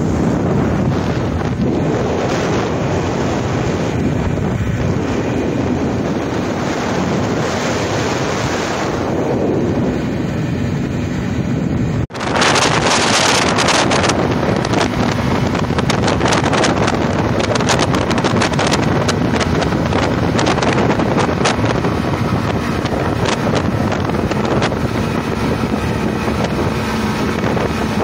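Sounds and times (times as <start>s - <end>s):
outboard motors running: 0.0s - 28.0s
wake rushing: 0.0s - 28.0s
wind buffeting microphone: 0.0s - 28.0s.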